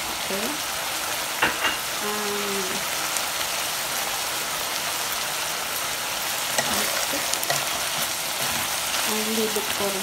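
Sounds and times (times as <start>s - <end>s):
meat and vegetables sizzling in pot: 0.0s - 10.0s.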